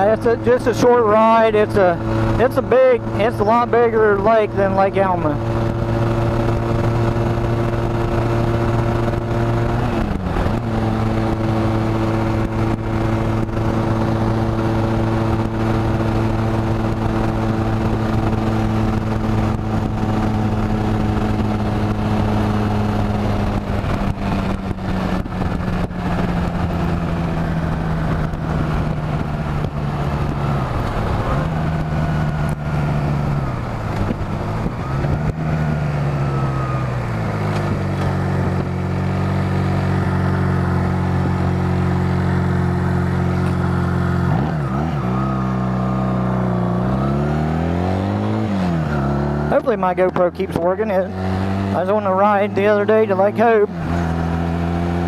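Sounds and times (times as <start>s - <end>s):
heavy wind noise: 0.0s - 45.4s
motorcycle engine shifting gears: 0.0s - 55.0s.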